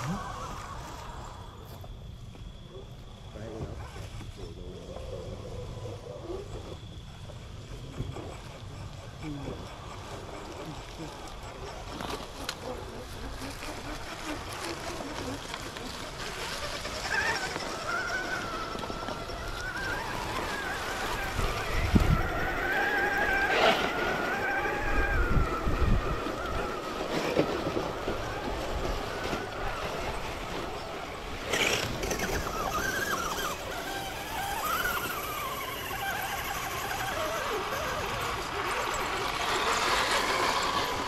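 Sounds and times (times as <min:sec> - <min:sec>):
electric motors and gears whining: 0:00.0 - 0:41.0.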